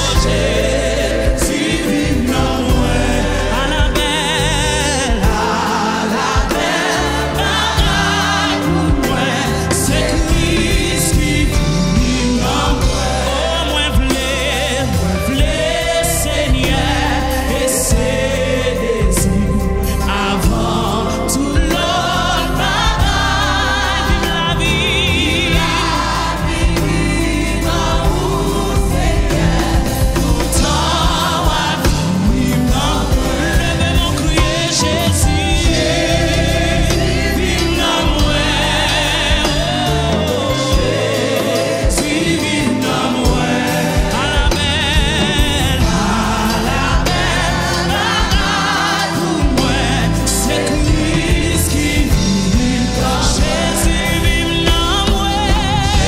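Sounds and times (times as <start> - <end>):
band with drum kit: 0.0 - 56.0
gospel choir singing: 0.0 - 56.0
lead singer singing: 0.0 - 56.0.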